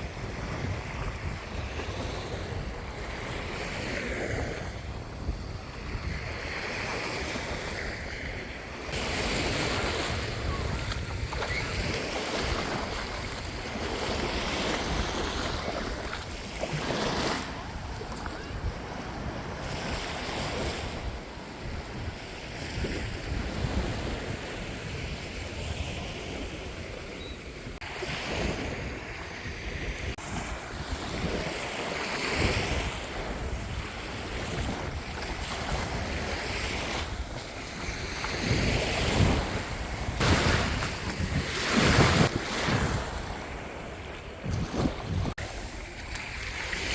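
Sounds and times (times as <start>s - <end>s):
sea surf washing onto beach: 0.0s - 27.1s, 27.8s - 46.9s
wind buffeting microphone: 0.0s - 46.9s.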